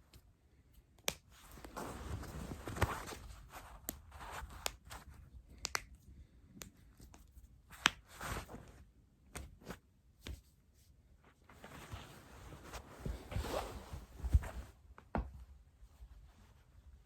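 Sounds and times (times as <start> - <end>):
soft rustling: 1.3 - 5.5, 6.8 - 17.0.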